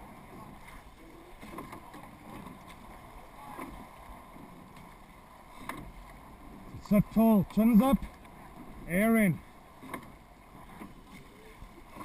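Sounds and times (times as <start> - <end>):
soft oar strokes: 0.0 - 12.0
water rushing: 0.0 - 12.0.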